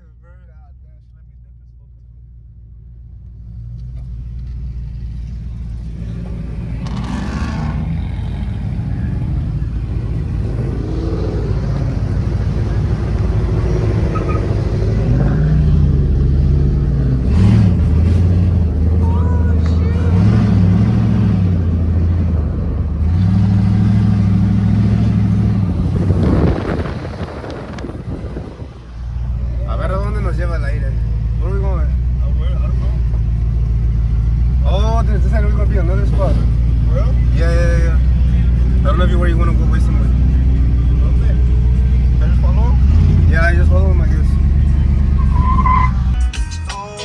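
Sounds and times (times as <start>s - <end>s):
vehicle engine rumble: 0.0s - 47.0s.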